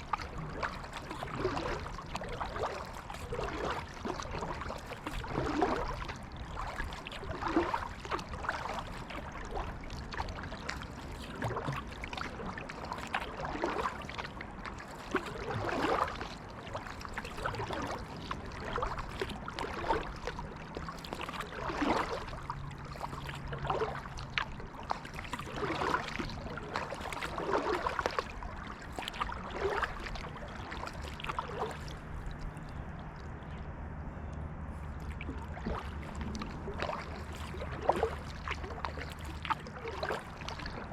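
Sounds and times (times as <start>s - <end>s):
paddle splashing water: 0.0s - 40.9s
water gurgling along hull: 0.0s - 40.9s.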